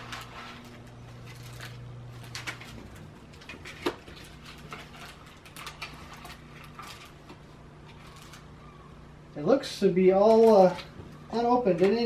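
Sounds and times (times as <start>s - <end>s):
packaging rustling: 0.0s - 8.9s, 10.1s - 12.0s.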